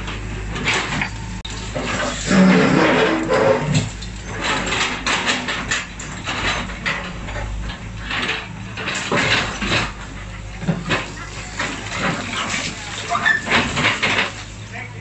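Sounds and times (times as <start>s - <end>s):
concrete chunks clunking and cracking: 0.0s - 14.9s
excavator bucket scraping rubble: 0.0s - 15.0s
machine engine humming: 0.0s - 15.0s.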